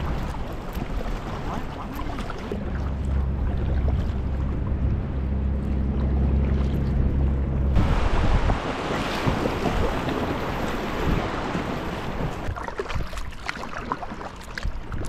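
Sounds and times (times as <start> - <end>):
low steady rumble: 0.0 - 12.6
water rushing and splashing: 0.0 - 15.0.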